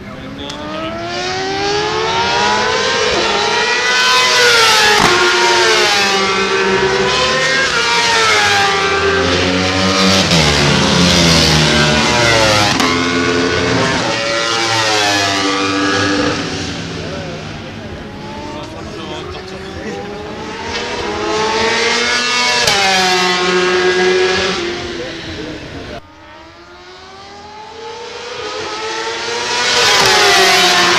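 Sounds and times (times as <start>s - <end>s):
racing motorcycles passing: 0.0s - 30.9s.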